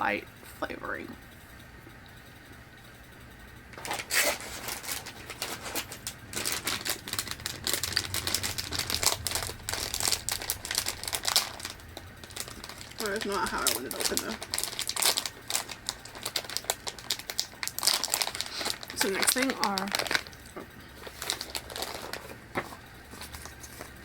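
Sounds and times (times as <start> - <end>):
snack packaging crinkling and tearing: 3.8 - 24.0.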